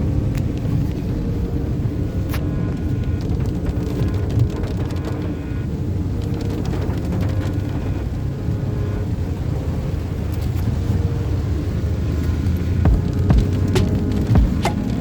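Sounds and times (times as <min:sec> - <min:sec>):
engine and tyres on wet road: 0:00.0 - 0:15.0
raindrops striking car: 0:02.3 - 0:09.4, 0:10.0 - 0:15.0.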